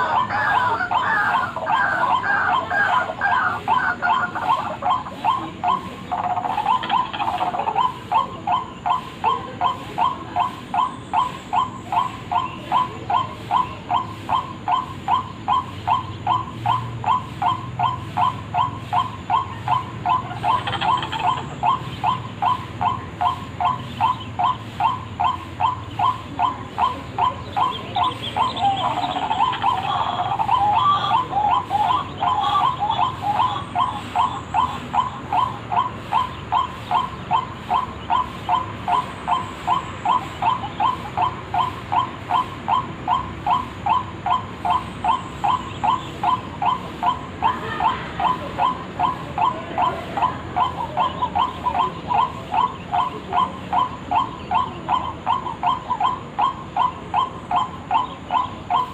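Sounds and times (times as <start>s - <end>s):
waterhen calling: 0.0s - 58.9s.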